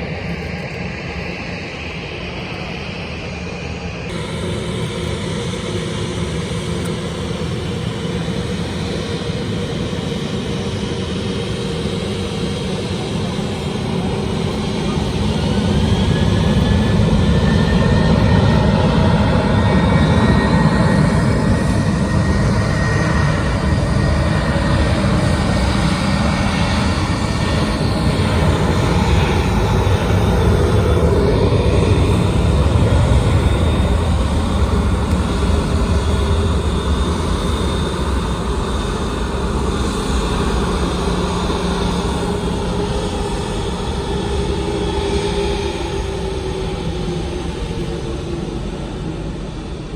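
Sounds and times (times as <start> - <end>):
jet airliner engines rumbling: 0.0 - 49.9
jet engine whine: 0.0 - 49.9.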